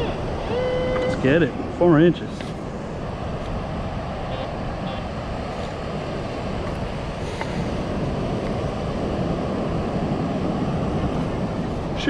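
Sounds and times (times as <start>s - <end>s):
ocean surf: 0.0s - 12.0s
wind: 0.0s - 12.0s
wind rumbling on microphone: 0.0s - 12.0s.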